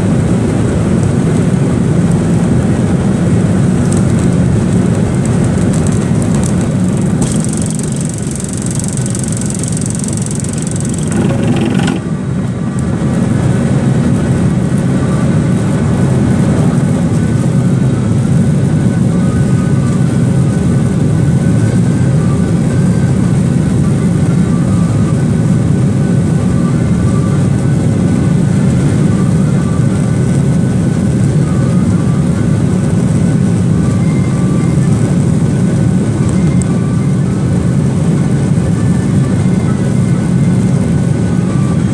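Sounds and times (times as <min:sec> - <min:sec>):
airplane cabin drone: 0:00.0 - 0:41.9.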